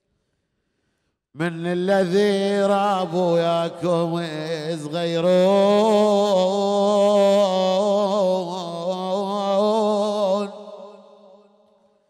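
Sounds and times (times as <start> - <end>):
man chanting a lament: 1.4 - 11.4.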